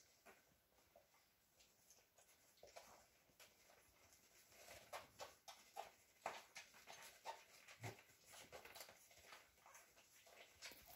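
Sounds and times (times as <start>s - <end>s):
puppies suckling and smacking: 0.0s - 10.9s.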